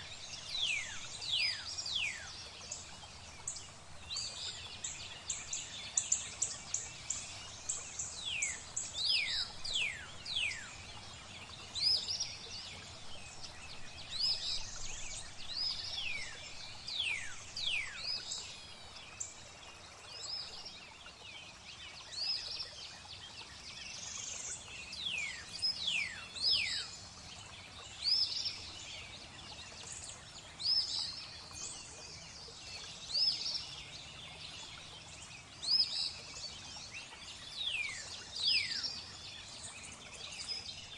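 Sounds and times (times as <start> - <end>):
faint steady hiss: 0.0 - 40.9.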